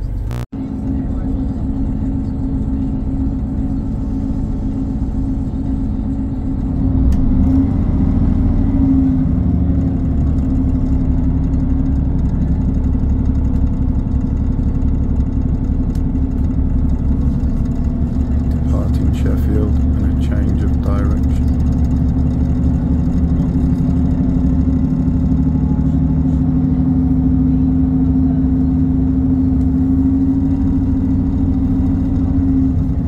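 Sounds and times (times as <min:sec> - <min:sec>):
train diesel engine running: 0:00.0 - 0:33.0.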